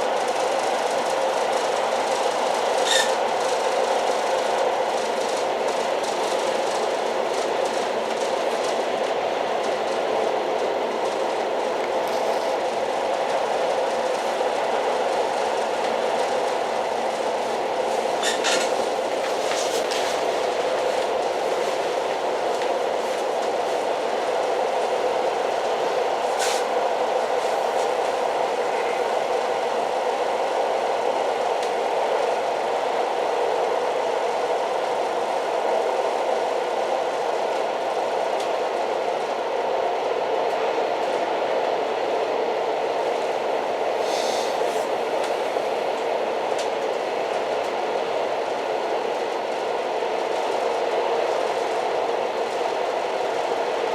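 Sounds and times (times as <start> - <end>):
old train rumbling: 0.0 - 53.9.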